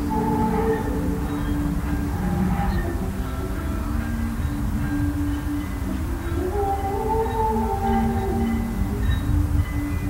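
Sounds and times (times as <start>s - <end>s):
held ambient notes: 0.0s - 10.0s.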